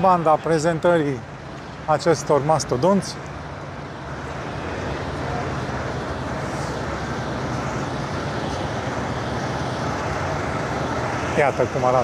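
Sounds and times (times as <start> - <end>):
large engine humming: 0.0 - 12.0
traffic noise: 0.0 - 12.0.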